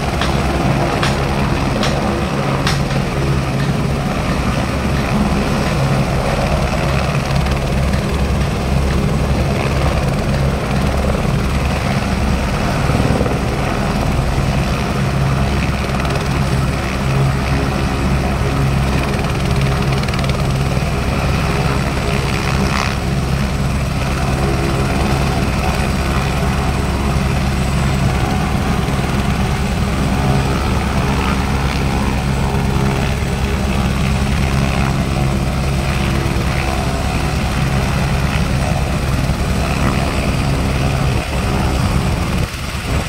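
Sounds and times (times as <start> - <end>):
helicopter engine and rotor: 0.0 - 43.0.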